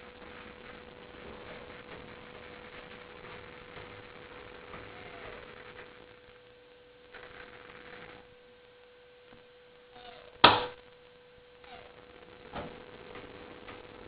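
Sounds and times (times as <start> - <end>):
steady high hum: 0.0 - 14.0.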